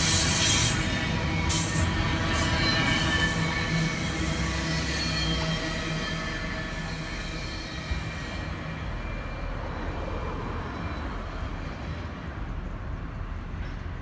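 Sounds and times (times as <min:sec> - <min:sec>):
train wheel squeal: 0:00.0 - 0:12.3
train wheels rumbling: 0:00.0 - 0:14.0.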